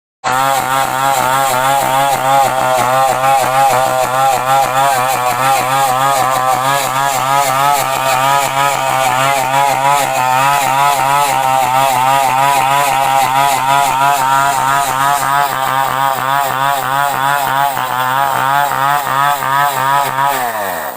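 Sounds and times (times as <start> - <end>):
chainsaw engine warbling: 0.2 - 20.9.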